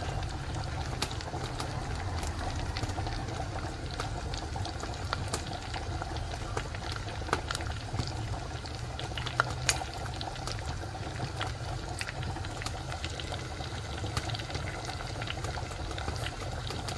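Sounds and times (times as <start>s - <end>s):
fat popping and crackling: 0.0s - 16.9s
sausage sizzling in a pan: 0.0s - 16.9s.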